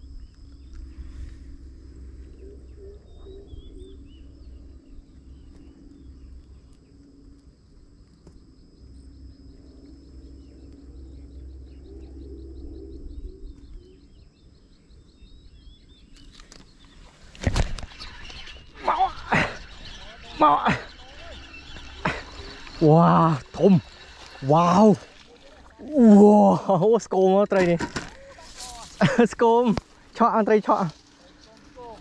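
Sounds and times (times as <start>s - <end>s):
wind rumbling on microphone: 0.0s - 26.2s
faint steady high whine: 0.0s - 32.0s
small birds chirping: 1.9s - 32.0s.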